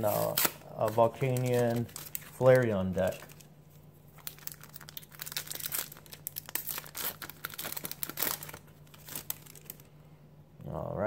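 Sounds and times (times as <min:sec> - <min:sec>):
card pack wrapper crinkling: 0:00.0 - 0:03.5, 0:04.1 - 0:09.9.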